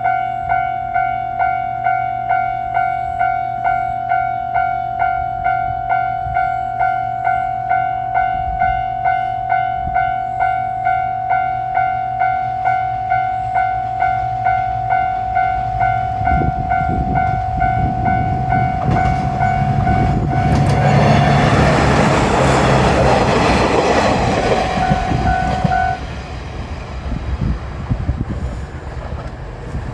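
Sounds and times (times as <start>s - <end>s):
railroad crossing bell ringing: 0.0s - 27.5s
train running over rails: 0.0s - 29.9s.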